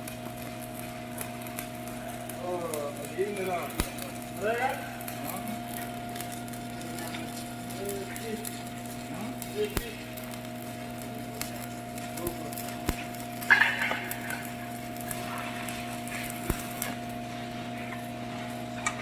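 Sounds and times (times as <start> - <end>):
welding machine electrical hum: 0.0 - 19.0
crackling hiss: 1.2 - 17.2.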